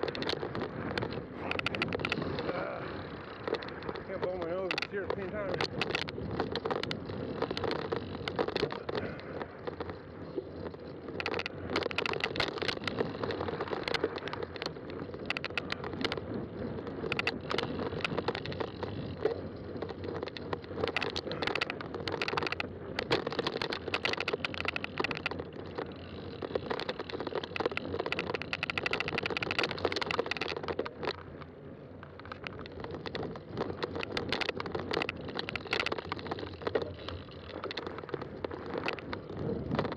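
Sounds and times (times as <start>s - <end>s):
bike clicks and rattles: 0.0s - 39.9s
bike tyre hum on trail: 0.0s - 39.9s.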